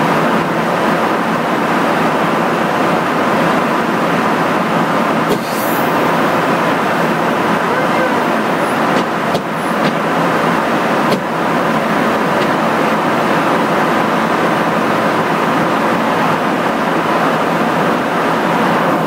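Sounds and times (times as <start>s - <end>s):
rushing airflow and engine noise: 0.0s - 19.0s.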